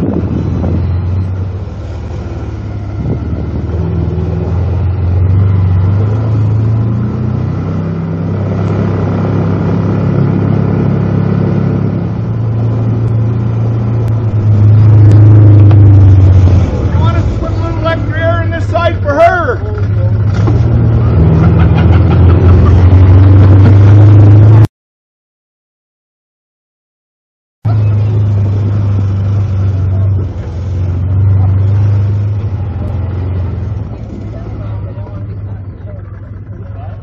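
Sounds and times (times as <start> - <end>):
atv engine running: 0.0 - 24.5, 27.7 - 37.0.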